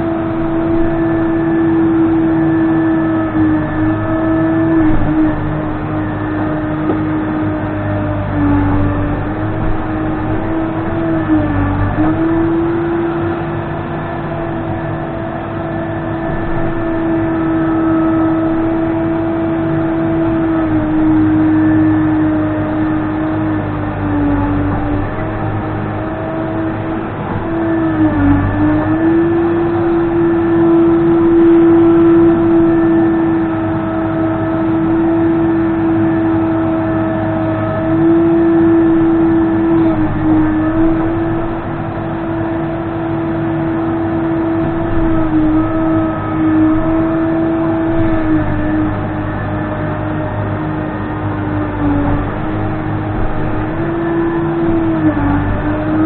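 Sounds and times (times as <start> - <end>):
diesel engine running with whine: 0.0 - 56.0.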